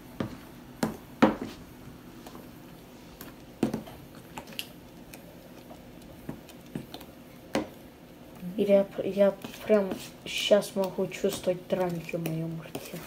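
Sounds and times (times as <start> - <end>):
utensil stirring thick batter: 2.2 - 13.0.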